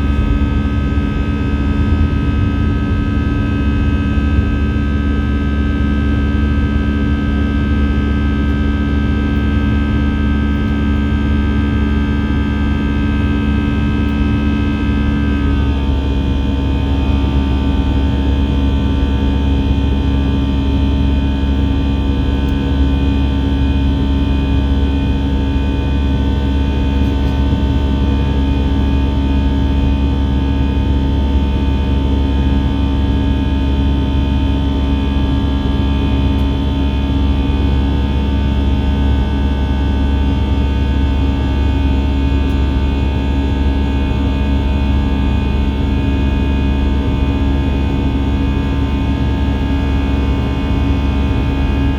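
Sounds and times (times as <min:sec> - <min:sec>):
jet engine cabin drone: 0:00.0 - 0:51.9.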